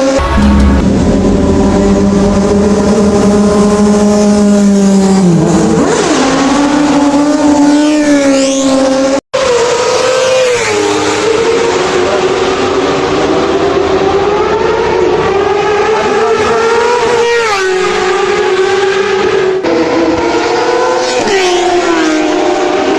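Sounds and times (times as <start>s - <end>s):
high-revving vehicle engines: 0.0s - 22.9s.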